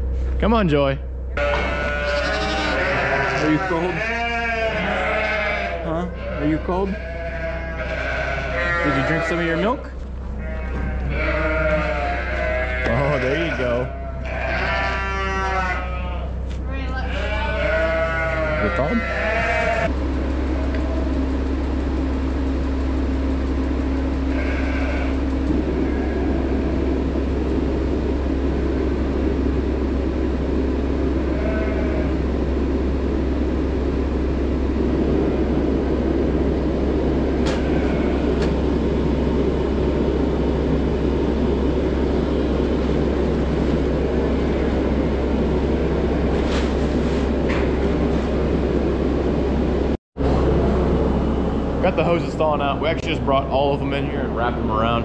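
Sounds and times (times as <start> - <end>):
faint humming tone: 0.0 - 55.0
machinery droning: 0.0 - 55.0.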